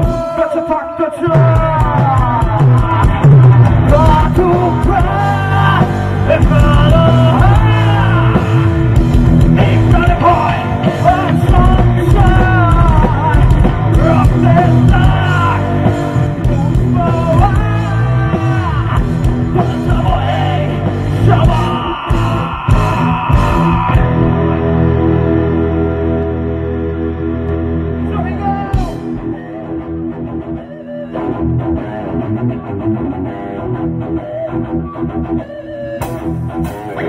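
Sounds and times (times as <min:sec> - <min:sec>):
man singing: 0:00.0 - 0:26.2, 0:28.0 - 0:32.7
bass guitar: 0:00.0 - 0:37.0
drums: 0:00.0 - 0:37.0
electric guitars: 0:00.0 - 0:37.0.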